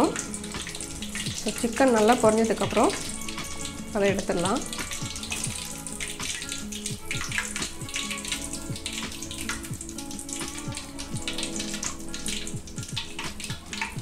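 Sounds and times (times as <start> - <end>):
frying oil crackling and popping: 0.0 - 14.0.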